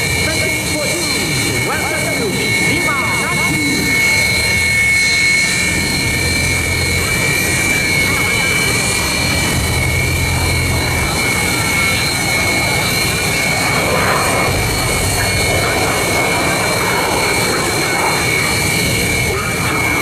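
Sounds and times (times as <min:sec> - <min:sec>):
jet engine roar with whine: 0:00.0 - 0:20.0.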